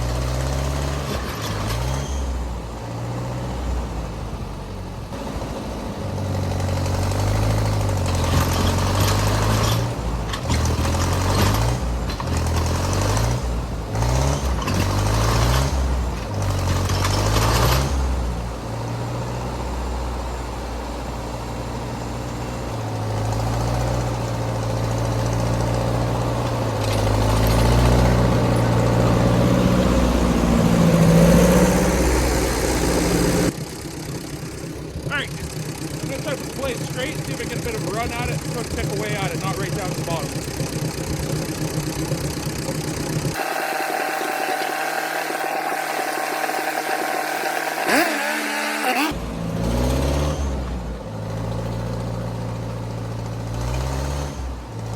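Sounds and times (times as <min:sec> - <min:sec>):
tractor engine revving under load: 0:00.0 - 0:54.9
noisy engine bursts: 0:04.8 - 0:54.9.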